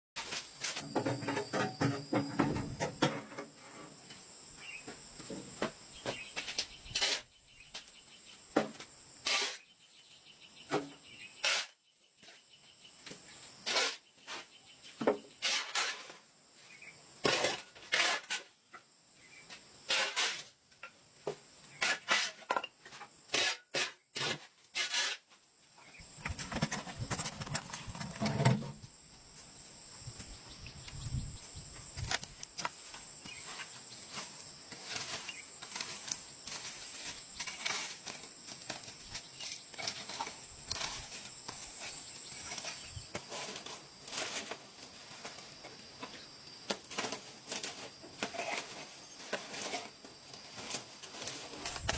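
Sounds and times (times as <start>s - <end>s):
insects chirring: 0.2s - 51.9s.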